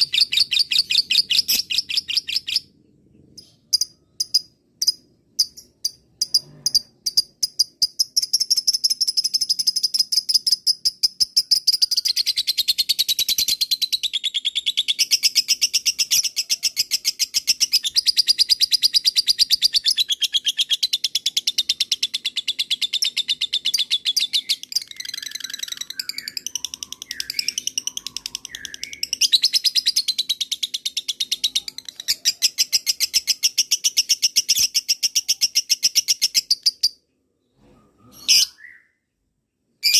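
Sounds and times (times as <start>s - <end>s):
lovebird chirping: 0.0s - 39.2s.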